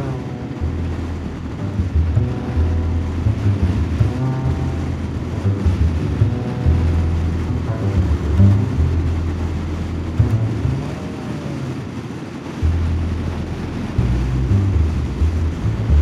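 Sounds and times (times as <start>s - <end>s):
low bass notes: 0.0s - 16.0s
wind rush: 0.0s - 16.0s.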